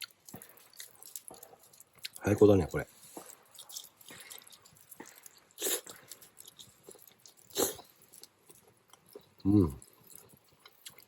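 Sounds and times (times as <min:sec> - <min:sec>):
person chewing chicken: 0:00.0 - 0:11.0.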